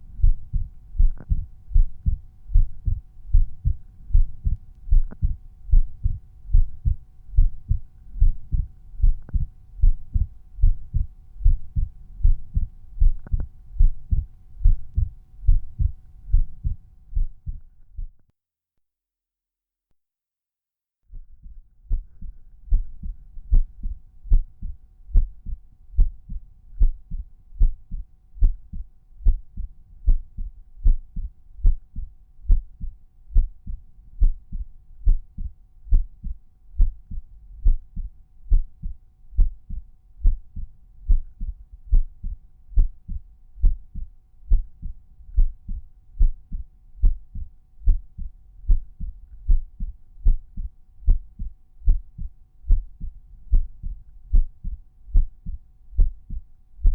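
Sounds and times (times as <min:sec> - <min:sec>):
heartbeat lub-dub: 0:00.0 - 0:18.2, 0:21.1 - 0:56.9.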